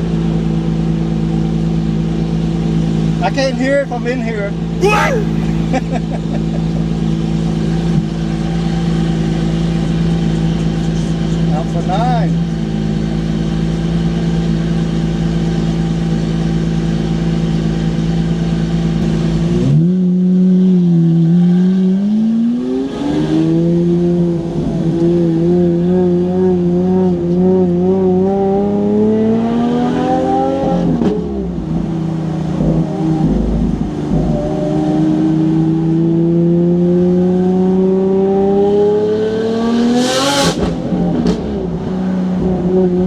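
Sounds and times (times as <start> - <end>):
car engine revving: 0.5 - 43.0.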